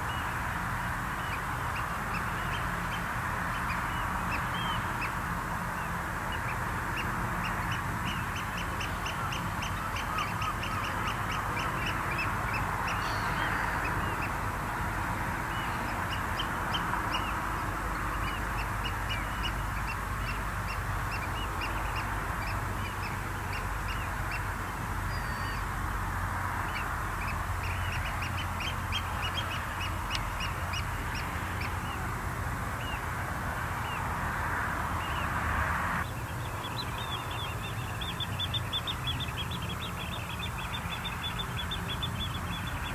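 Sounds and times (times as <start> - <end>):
wading birds calling: 0.0 - 35.3, 36.0 - 42.9.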